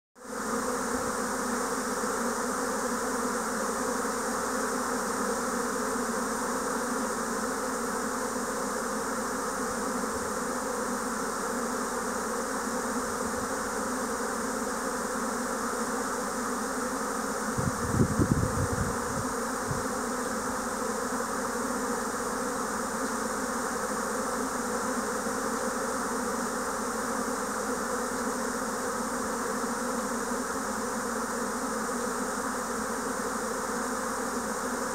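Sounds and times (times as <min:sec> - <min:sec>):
swarm of bees humming: 0:00.2 - 0:34.9.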